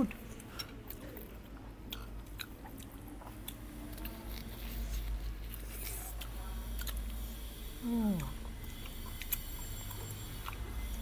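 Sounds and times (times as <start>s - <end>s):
low steady hum: 0.0s - 11.0s
person chewing and biting ribs: 0.2s - 7.3s, 8.2s - 11.0s.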